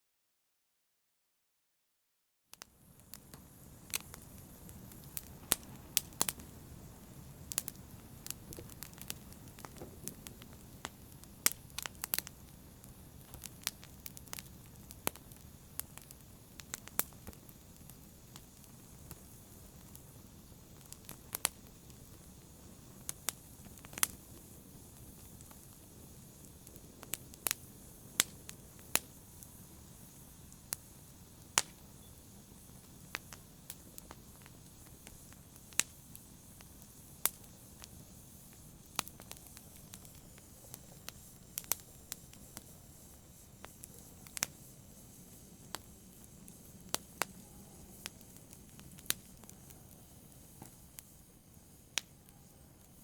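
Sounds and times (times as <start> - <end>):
open fire crackling and popping: 2.5 - 53.0
low rumble of burning: 2.6 - 53.0.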